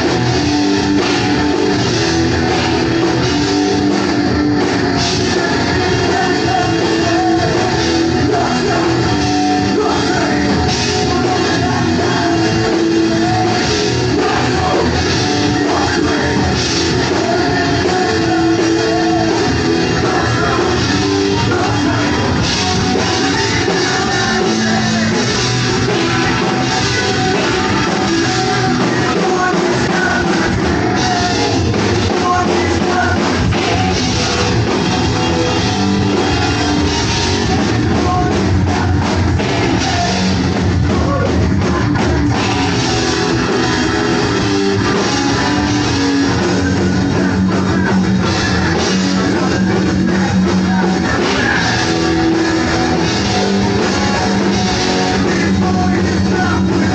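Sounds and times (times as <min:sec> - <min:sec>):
bass guitar: 0:00.0 - 0:56.9
drum kit: 0:00.0 - 0:56.9
electric guitars: 0:00.0 - 0:56.9
person singing: 0:00.0 - 0:56.9.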